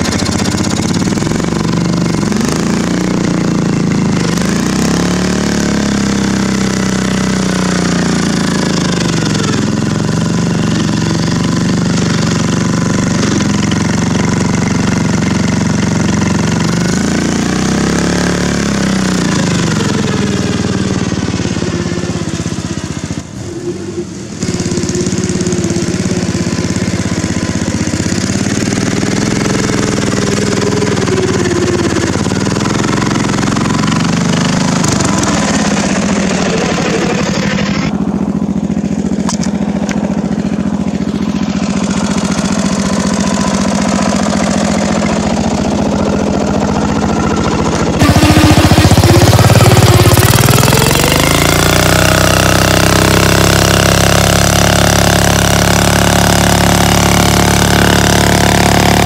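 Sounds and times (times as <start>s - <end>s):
riding mower engine under load: 0.0s - 59.0s.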